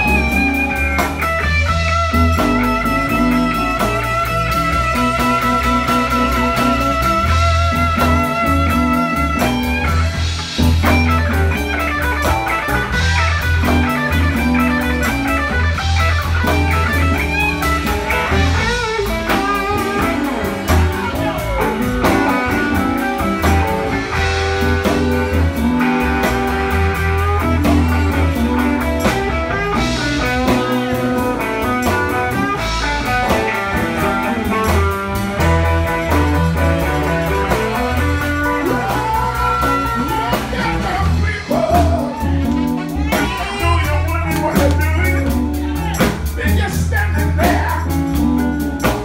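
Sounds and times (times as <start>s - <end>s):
electric guitar lead: 0.0s - 49.0s
steady drum beat: 0.0s - 49.0s.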